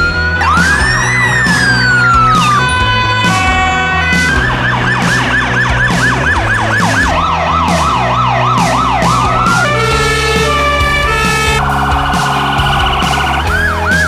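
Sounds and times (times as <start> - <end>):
background music: 0.0 - 14.0
siren yelping: 0.0 - 14.0.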